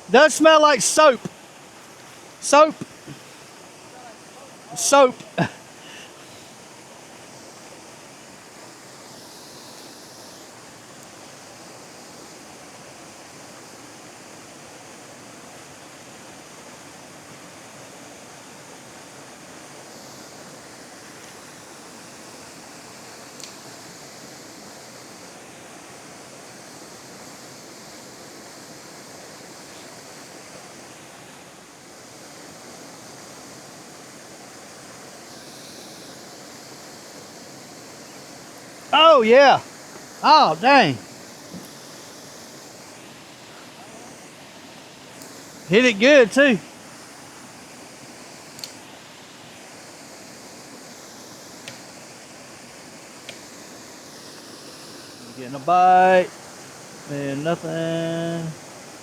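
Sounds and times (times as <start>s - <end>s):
flowing river water: 0.0s - 59.0s.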